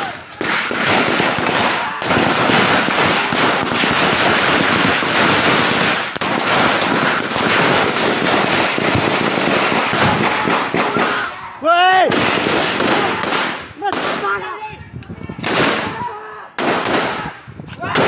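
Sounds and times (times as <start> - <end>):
heavy rapid gunfire: 0.0 - 14.4, 15.4 - 16.0, 16.6 - 18.0.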